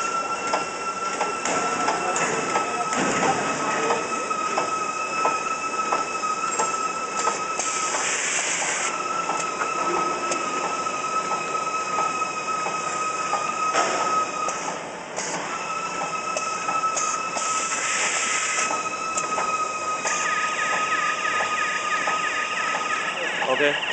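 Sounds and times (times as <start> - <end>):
packing machine whine: 0.0 - 23.9.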